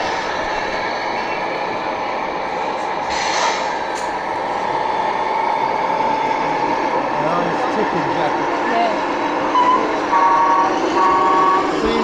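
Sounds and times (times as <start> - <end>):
hum of a busy hall: 0.0 - 12.0.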